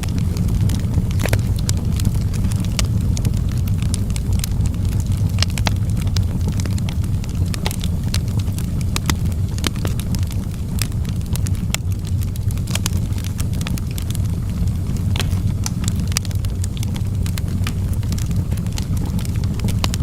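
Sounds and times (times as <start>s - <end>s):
logs crackling and popping: 0.0s - 20.0s
low roar of flames: 0.0s - 20.0s.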